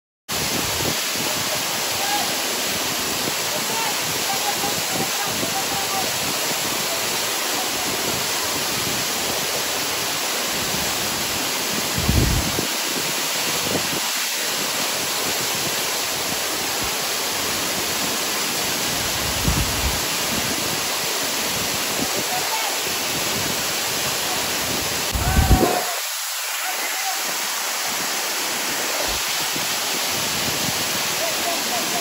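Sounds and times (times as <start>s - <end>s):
waterfall rushing: 0.3s - 32.0s.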